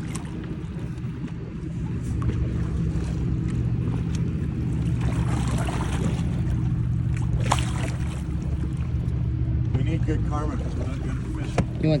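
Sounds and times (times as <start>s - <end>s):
boat engine drone: 0.0s - 12.0s
water along the hull: 0.0s - 12.0s.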